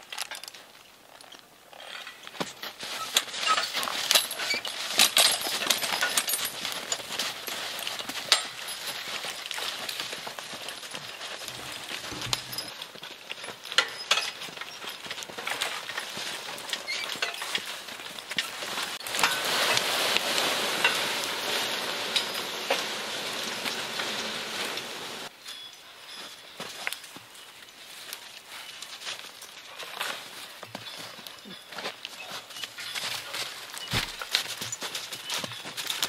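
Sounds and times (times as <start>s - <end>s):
hooves and harness jingling: 0.0s - 36.0s
crunching and scraping through snow: 1.6s - 36.0s.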